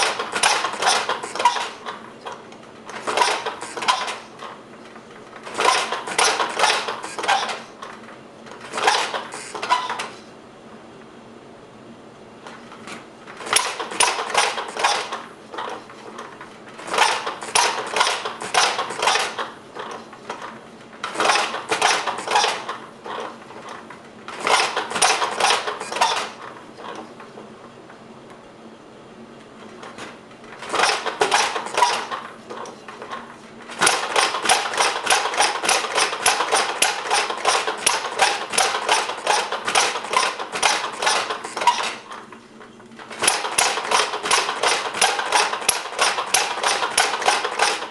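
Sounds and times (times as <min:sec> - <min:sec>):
single-cylinder engine popping: 0:00.0 - 0:10.2, 0:12.5 - 0:27.4, 0:29.7 - 0:47.9.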